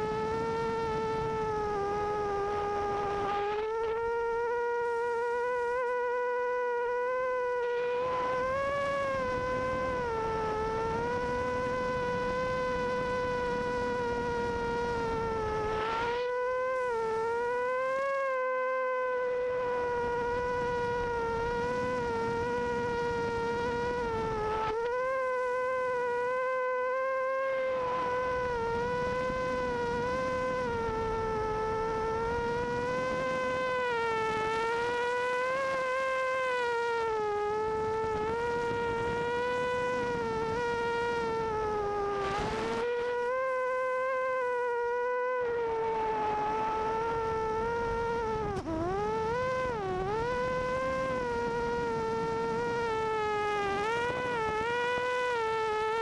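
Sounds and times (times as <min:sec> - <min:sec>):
quadcopter propellers buzzing: 0:00.0 - 0:56.0.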